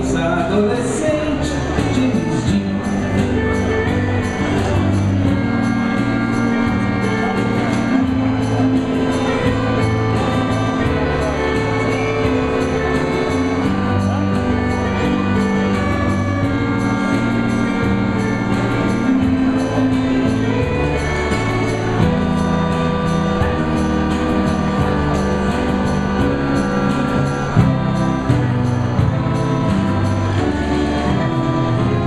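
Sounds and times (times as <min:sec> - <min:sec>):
digital piano playing chords: 0:00.0 - 0:32.0.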